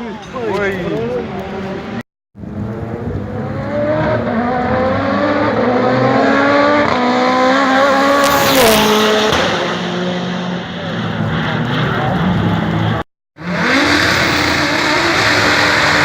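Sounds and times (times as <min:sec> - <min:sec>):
race car engine revving: 0:01.5 - 0:16.0.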